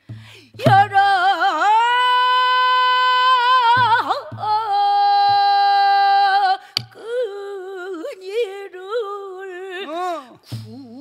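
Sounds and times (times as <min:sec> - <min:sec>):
woman singing with vibrato: 0:00.2 - 0:11.0.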